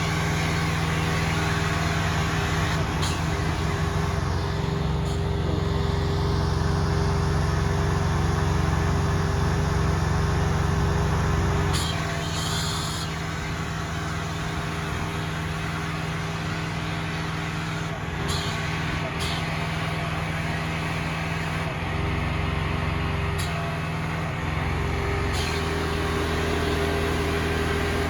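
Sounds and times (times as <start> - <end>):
pressure washer engine running: 0.0 - 28.0.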